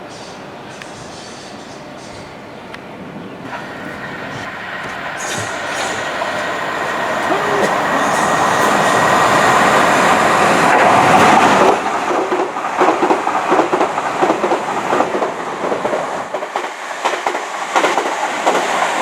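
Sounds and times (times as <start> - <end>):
train rushing past: 0.0 - 19.0
wheels clattering over rail joints: 3.5 - 18.8.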